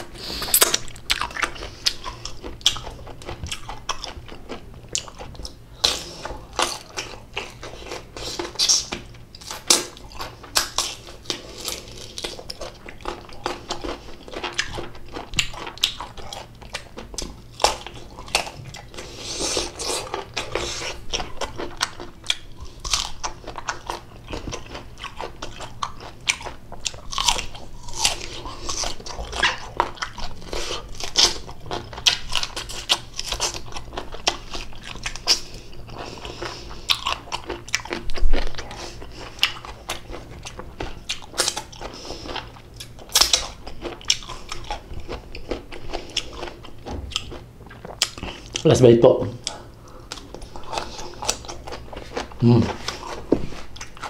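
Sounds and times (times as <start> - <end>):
biting and chewing crunches: 0.0 - 48.7, 49.4 - 54.0.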